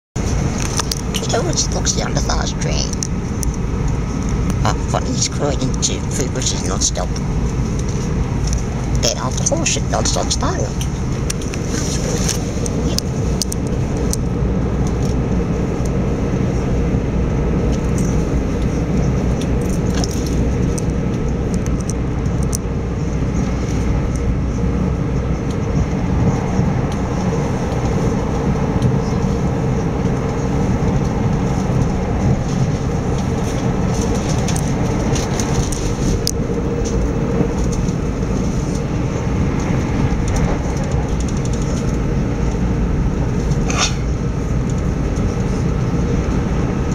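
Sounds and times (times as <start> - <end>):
train rumble inside carriage: 0.2 - 46.9.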